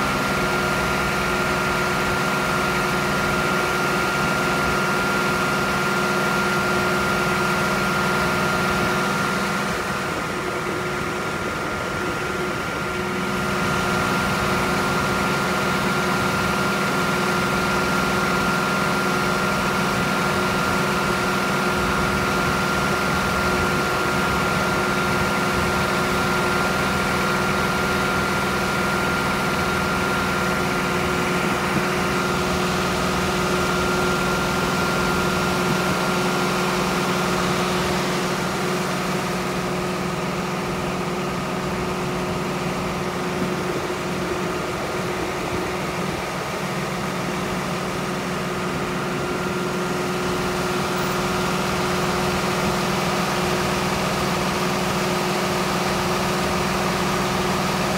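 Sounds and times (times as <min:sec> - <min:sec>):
truck engine drone: 0:00.0 - 0:57.9.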